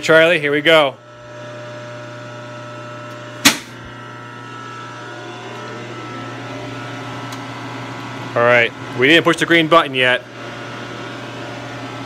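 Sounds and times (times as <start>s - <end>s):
electrical hum of phase converter: 0.0s - 12.0s.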